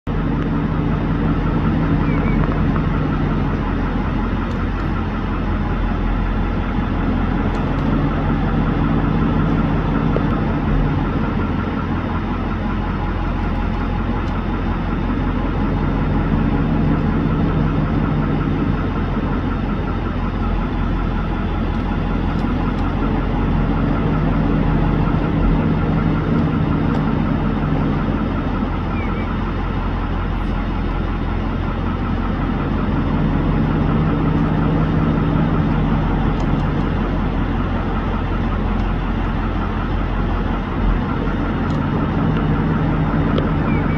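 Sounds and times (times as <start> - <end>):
mechanical drone with low hum: 0.1 - 43.9.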